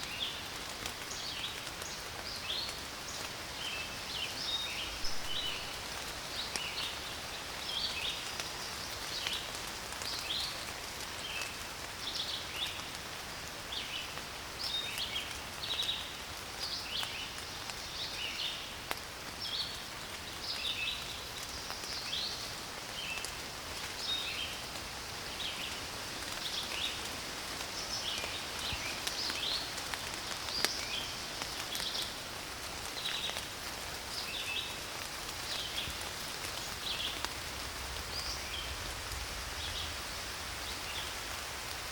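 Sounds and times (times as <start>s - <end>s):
rain falling on forest: 0.0s - 41.9s.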